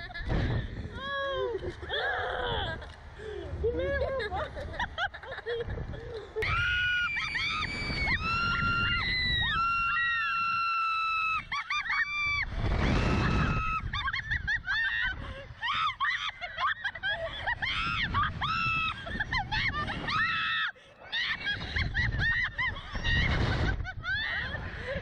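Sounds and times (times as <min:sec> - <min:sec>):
wind rushing over microphone: 0:00.0 - 0:15.9, 0:16.8 - 0:20.6, 0:21.2 - 0:25.0
women screaming and laughing: 0:00.9 - 0:25.0.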